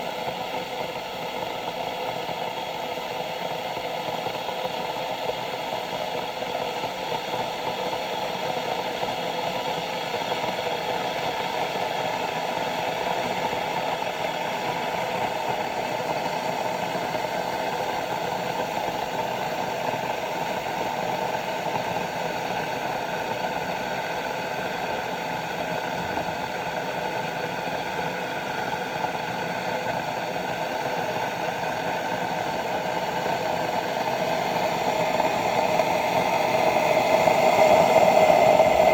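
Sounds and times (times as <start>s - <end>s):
electric kettle heating water: 0.0s - 38.9s.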